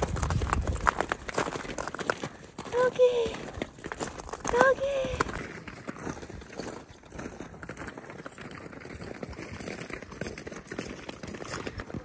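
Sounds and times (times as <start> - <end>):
footsteps crunching on ice: 0.0 - 12.0.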